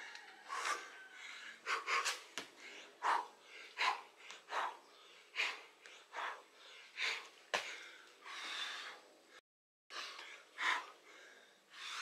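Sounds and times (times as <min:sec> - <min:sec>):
man breathing hard: 0:00.1 - 0:12.0.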